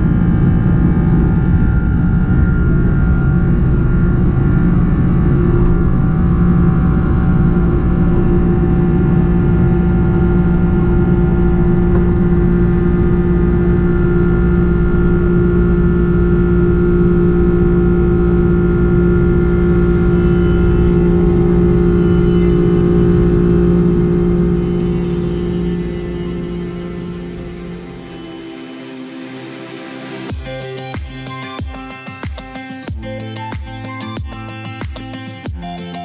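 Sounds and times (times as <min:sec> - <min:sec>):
faint whining tones: 0:00.0 - 0:30.3
jet engines droning: 0:00.0 - 0:36.0.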